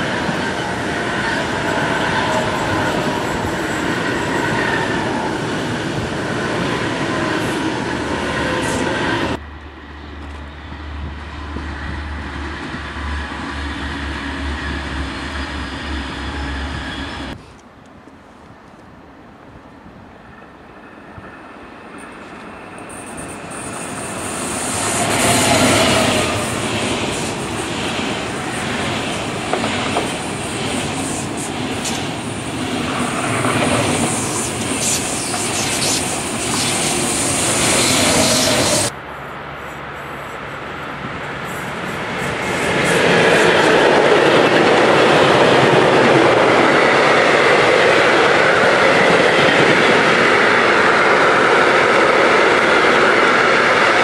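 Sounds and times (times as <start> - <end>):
freight train rolling past: 0.0 - 17.4, 19.5 - 54.0
high-speed train passing: 0.0 - 54.0.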